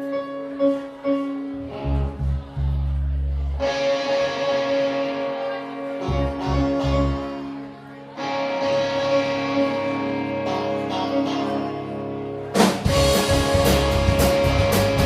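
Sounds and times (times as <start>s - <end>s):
electric guitar chords: 0.0s - 15.0s
live rock band playing: 0.0s - 15.0s.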